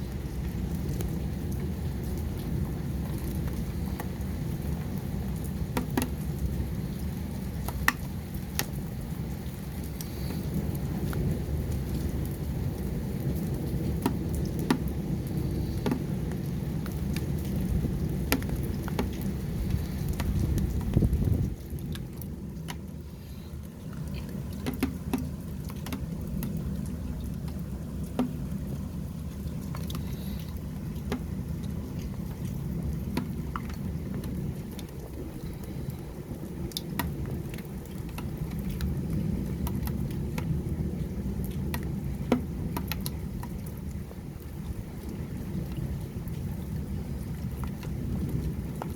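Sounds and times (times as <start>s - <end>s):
heavy rain on hard surfaces: 0.0s - 48.9s.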